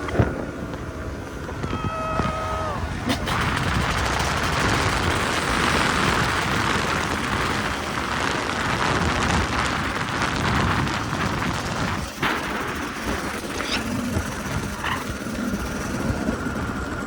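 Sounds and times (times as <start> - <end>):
wind on microphone: 0.0 - 17.0
dirt bike engine running: 3.0 - 17.0.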